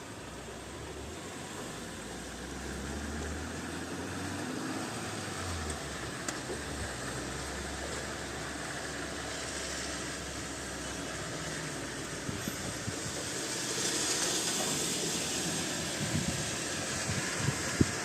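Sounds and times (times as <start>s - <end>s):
heavy rain hissing: 0.1s - 18.0s.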